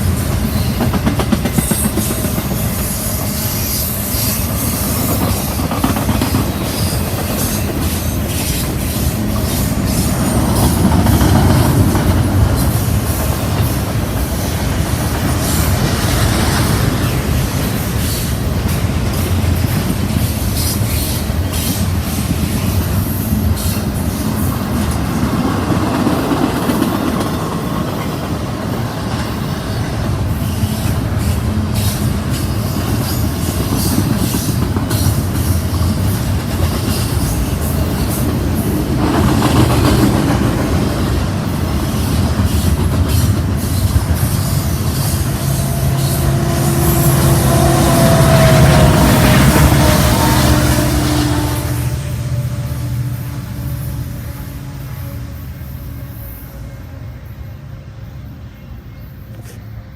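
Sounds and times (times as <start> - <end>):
train wheels clicking over rail joints: 0.0 - 51.5.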